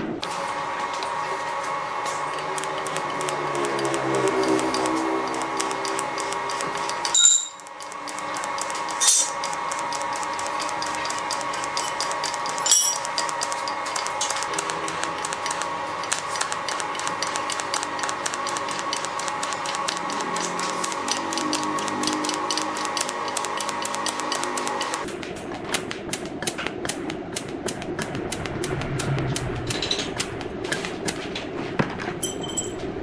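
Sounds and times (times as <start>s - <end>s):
welding arc buzzing and crackling: 0.2s - 31.4s.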